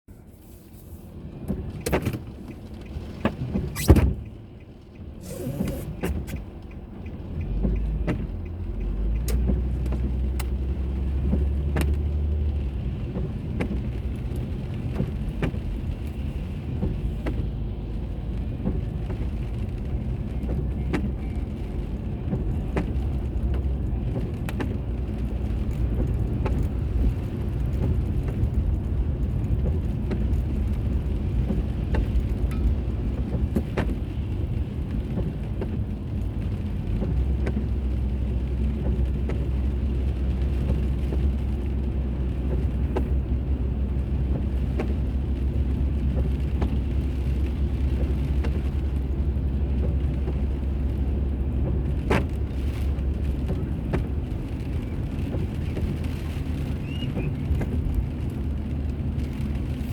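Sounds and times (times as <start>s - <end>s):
car engine and tyres humming: 0.0s - 59.9s
clicks inside car: 1.4s - 59.9s.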